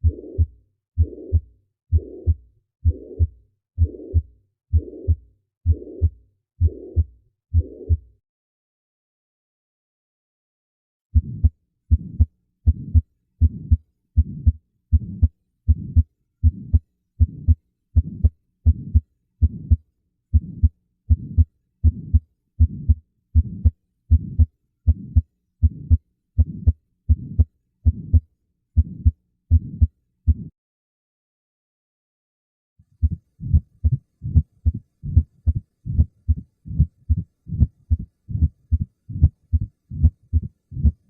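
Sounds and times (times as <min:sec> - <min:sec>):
heart murmur: 0:00.0 - 0:08.1, 0:11.2 - 0:28.2, 0:28.8 - 0:30.5, 0:33.0 - 0:41.0
heartbeat through stethoscope: 0:00.0 - 0:08.1, 0:11.2 - 0:28.2, 0:28.8 - 0:30.5, 0:33.0 - 0:41.0.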